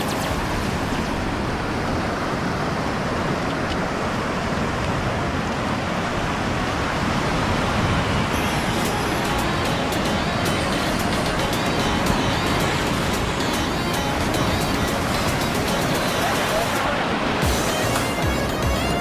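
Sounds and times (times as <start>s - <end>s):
surf rushing: 0.0s - 19.0s
wind: 0.0s - 19.0s.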